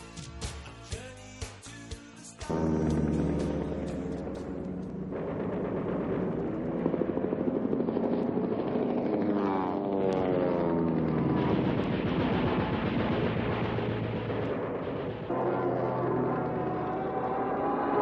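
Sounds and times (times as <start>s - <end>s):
sustained pitched tones: 2.4s - 18.0s
falling tone: 2.5s - 18.0s
helicopter rotor chop: 2.5s - 18.0s.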